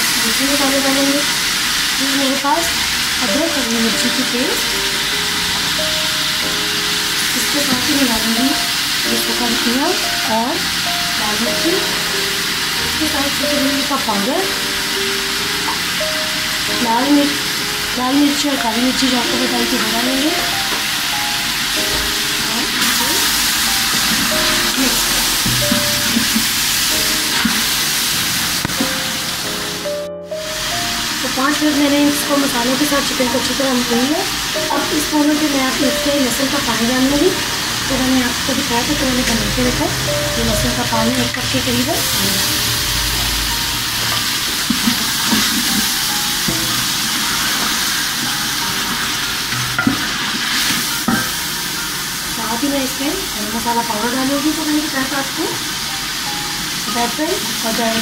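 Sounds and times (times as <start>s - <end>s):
chicken frying in hot oil: 0.0s - 29.8s, 30.5s - 58.0s.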